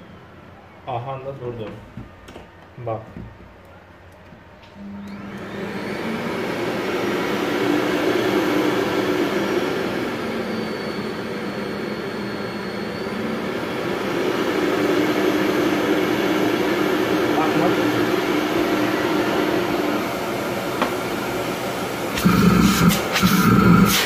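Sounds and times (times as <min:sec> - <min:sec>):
vacuum cleaner motor whirring: 0:04.6 - 0:24.0.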